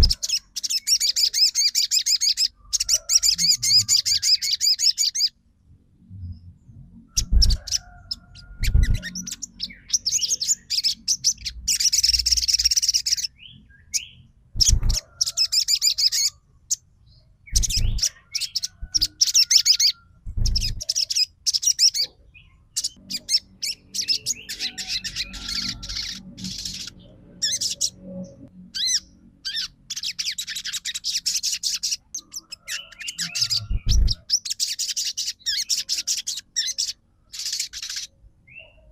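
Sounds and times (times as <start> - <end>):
bird chirping trills: 0.0 - 5.4, 6.0 - 38.9.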